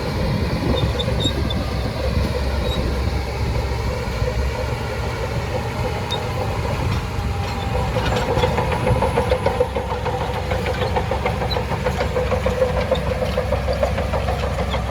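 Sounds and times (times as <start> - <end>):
bulldozer diesel engine running: 0.0 - 14.9.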